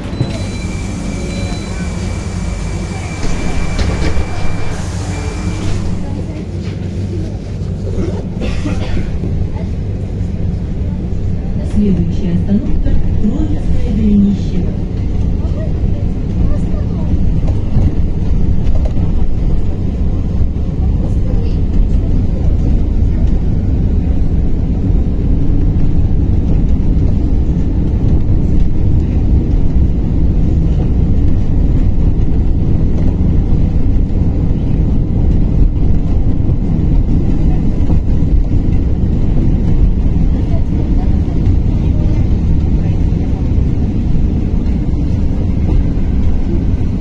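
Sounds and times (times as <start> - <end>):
road and tyre rumble inside bus: 0.0 - 47.0.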